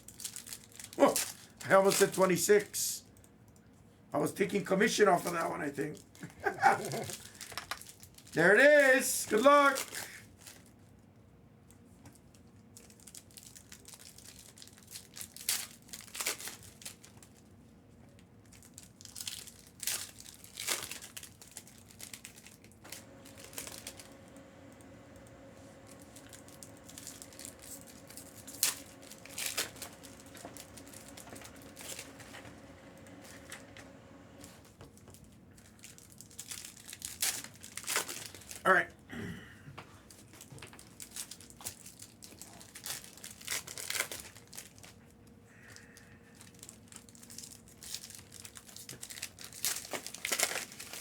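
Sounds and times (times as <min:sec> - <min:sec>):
card pack wrapping crinkling and tearing: 0:00.0 - 0:02.7, 0:04.3 - 0:10.7, 0:12.8 - 0:17.5, 0:18.4 - 0:38.7, 0:40.1 - 0:45.0, 0:45.8 - 0:51.0.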